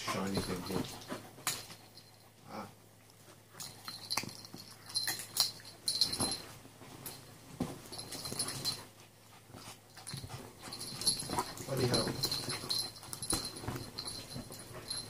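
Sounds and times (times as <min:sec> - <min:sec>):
dogs scuffling on sofa: 0:00.0 - 0:01.8, 0:03.2 - 0:15.0.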